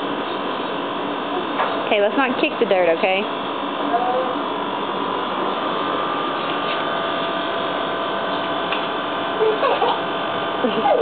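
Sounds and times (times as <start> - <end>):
mechanical hum and whir: 0.0 - 11.0.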